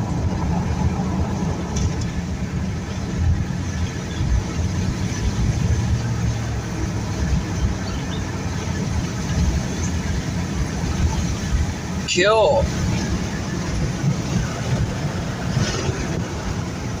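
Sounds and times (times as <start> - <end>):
road rumble: 0.0 - 17.0
vehicle engine: 0.0 - 17.0.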